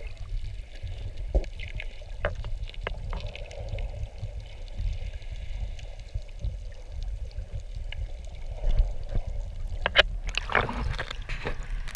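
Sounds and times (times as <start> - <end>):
muffled underwater rumble: 0.0 - 11.9
sharp crackles: 0.0 - 11.9.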